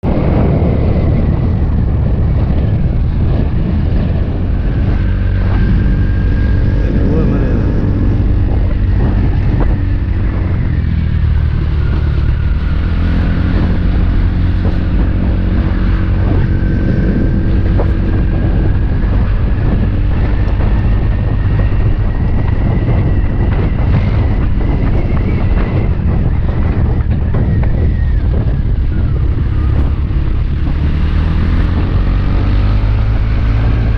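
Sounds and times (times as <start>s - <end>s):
wind buffeting microphone: 0.0s - 33.9s
motor scooter engine running: 0.2s - 33.9s.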